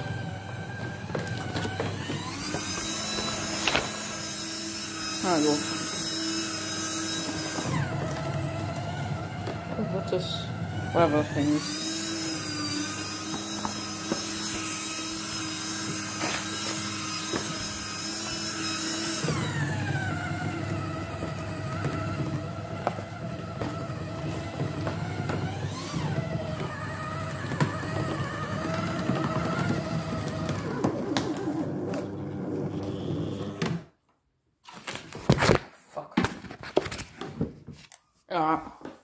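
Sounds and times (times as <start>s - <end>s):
paper shredder motor: 0.0s - 34.0s.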